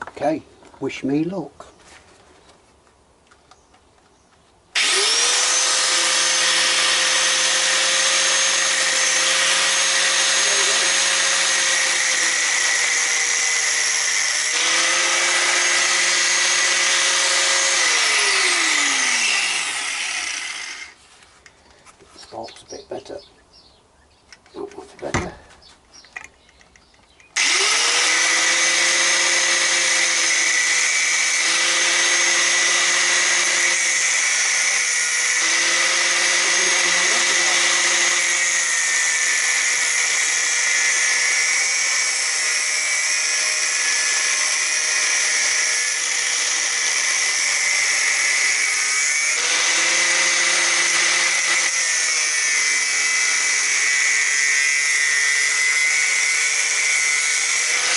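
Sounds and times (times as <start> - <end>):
angle grinder cutting metal: 4.8 - 21.0, 27.3 - 57.9.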